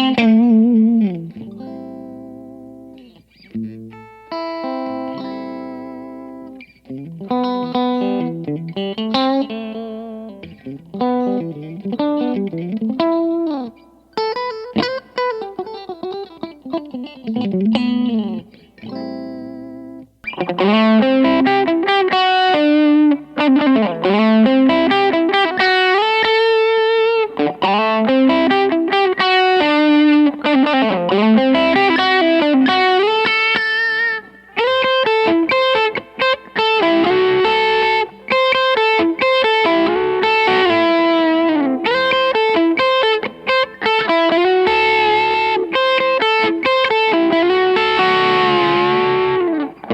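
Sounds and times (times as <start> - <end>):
overdriven electric guitar lead: 0.0 - 49.9.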